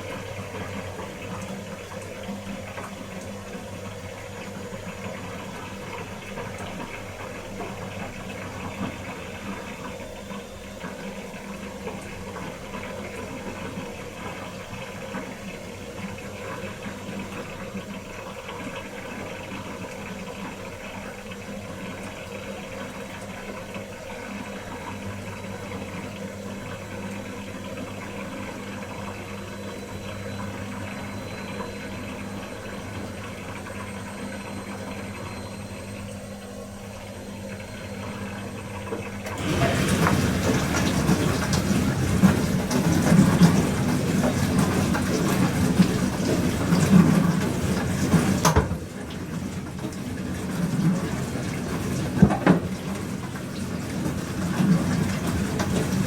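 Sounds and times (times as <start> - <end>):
dishwasher pump hum: 0.0 - 56.0
water washing in dishwasher: 0.0 - 56.0.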